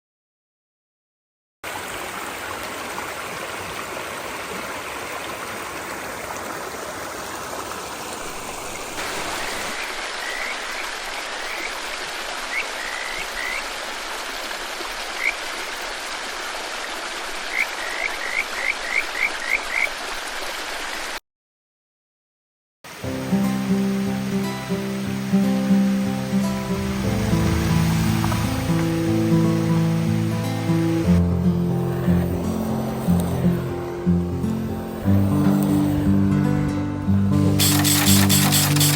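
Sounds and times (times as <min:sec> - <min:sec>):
stream water running: 0:01.6 - 0:21.2, 0:22.9 - 0:38.9.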